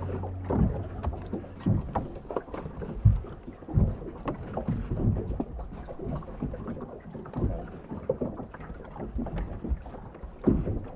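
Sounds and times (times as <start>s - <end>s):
small waves lapping: 0.0s - 10.9s.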